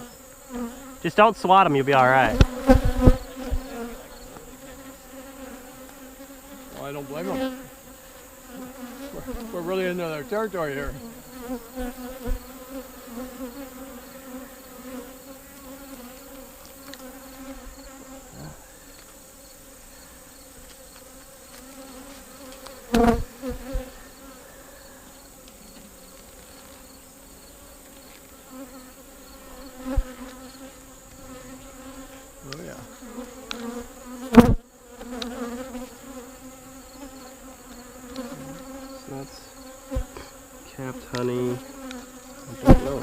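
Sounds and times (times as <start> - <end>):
honeybees buzzing: 0.0 - 43.0.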